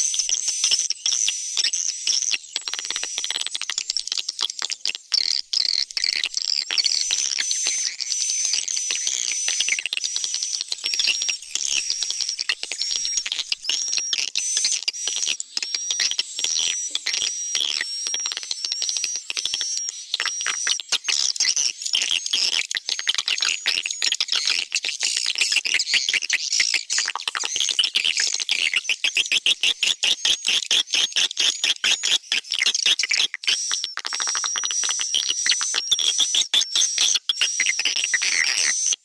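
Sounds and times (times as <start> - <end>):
swiftlets twittering and chirping: 0.0 - 39.0.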